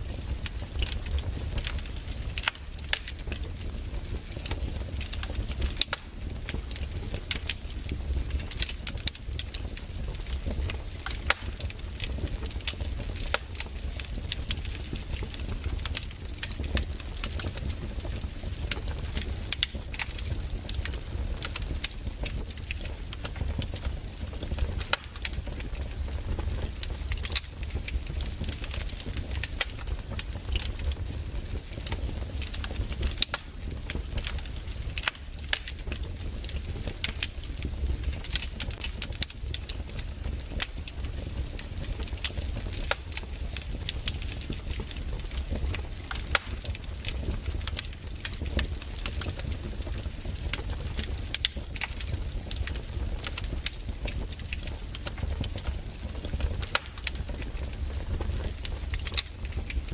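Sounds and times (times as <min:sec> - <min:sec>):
log fire crackling and popping: 0:00.0 - 0:59.9.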